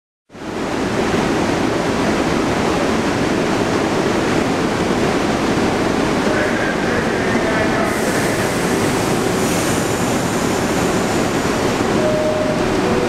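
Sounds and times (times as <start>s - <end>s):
subway train roaring past: 0.3s - 13.0s.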